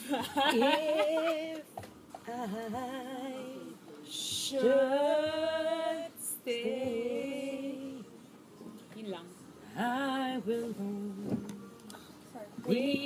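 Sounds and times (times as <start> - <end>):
woman singing unaccompanied: 0.1 - 8.2, 9.7 - 13.0.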